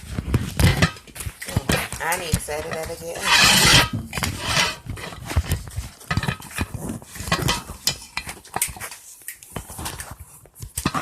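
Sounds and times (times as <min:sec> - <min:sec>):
household objects clicking and knocking: 0:00.0 - 0:11.0.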